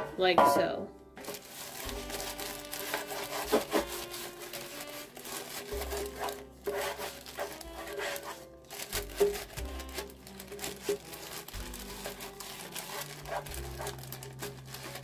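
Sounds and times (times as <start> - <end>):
plastic rubbing on metal pan: 1.2 - 15.0.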